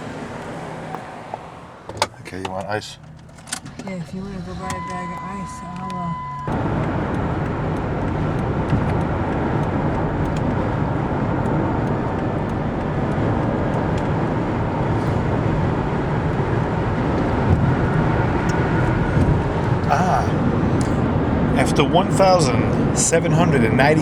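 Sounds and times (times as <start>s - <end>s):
car road and wind noise: 0.0s - 24.0s.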